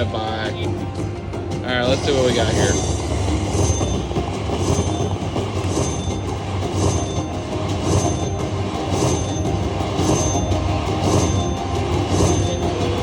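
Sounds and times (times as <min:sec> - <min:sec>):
slot machine game sounds: 0:00.0 - 0:13.0
high chime: 0:01.9 - 0:13.0.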